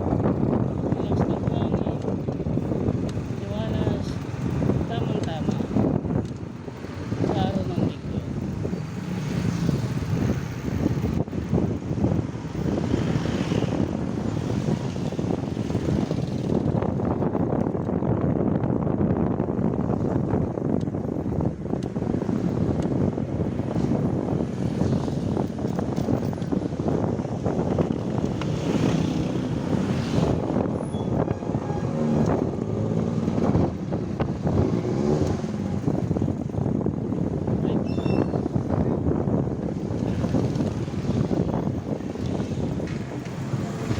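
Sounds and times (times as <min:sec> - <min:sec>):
vehicle engines passing: 0:00.0 - 0:17.9, 0:19.2 - 0:43.9
rumble of traffic or motor: 0:00.0 - 0:43.9
wind buffeting microphone: 0:00.0 - 0:43.9.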